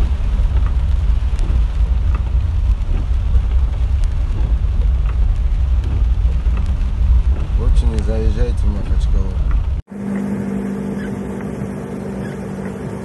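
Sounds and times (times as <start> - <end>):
low rumble inside driving car: 0.0 - 13.0.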